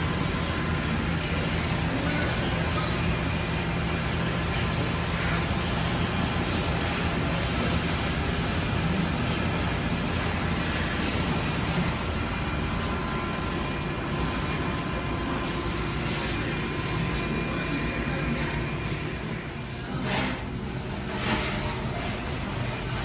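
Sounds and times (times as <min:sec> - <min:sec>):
machinery running with low hum: 0:00.0 - 0:23.0.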